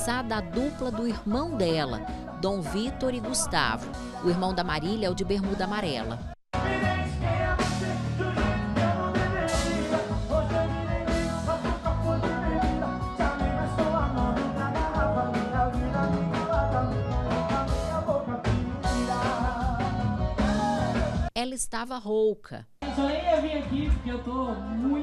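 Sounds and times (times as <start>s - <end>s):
live band music: 0.0s - 21.3s
person singing: 0.0s - 21.3s.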